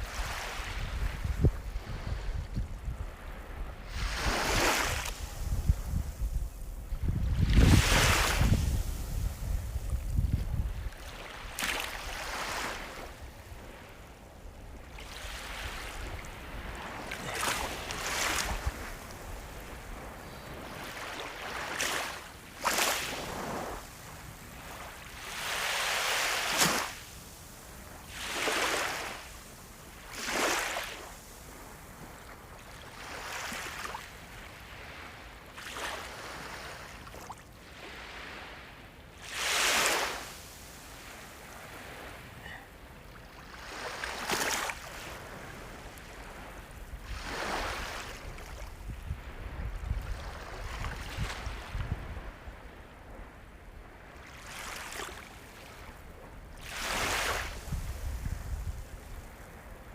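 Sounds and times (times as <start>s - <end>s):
sea waves breaking: 0.0s - 52.8s, 54.0s - 59.8s.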